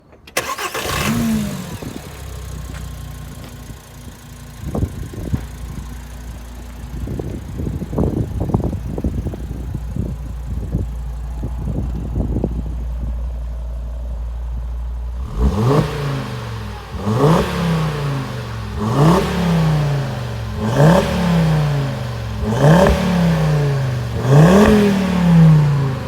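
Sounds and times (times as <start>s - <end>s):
car engine starting and idling: 0.2s - 26.0s
engine throttle revs: 0.4s - 3.4s, 4.1s - 26.0s.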